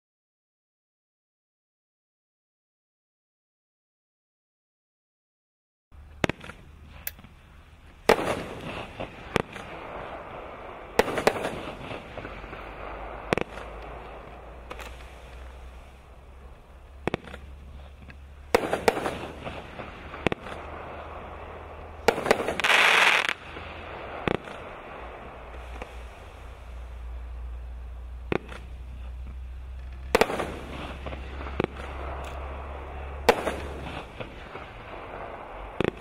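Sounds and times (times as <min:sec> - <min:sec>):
fireworks shots and bursts: 0:06.0 - 0:36.0
fireworks fizzing: 0:06.1 - 0:36.0.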